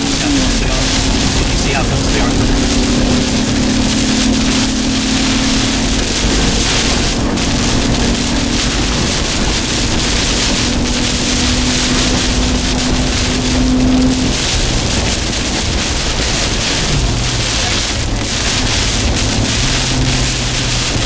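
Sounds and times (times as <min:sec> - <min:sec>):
engine drone: 0:00.0 - 0:21.0
heavy rain and wind on vehicle: 0:00.0 - 0:21.0.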